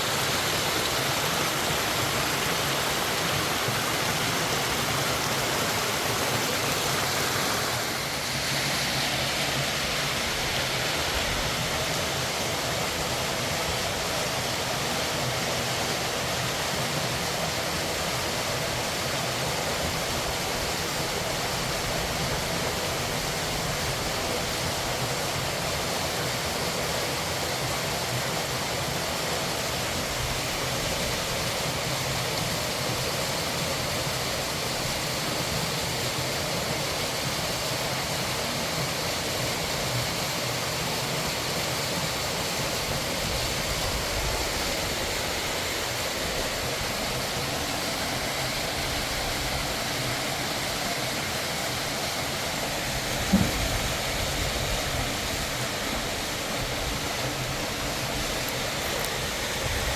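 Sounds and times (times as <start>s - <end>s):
mountain river rushing: 0.0s - 59.9s.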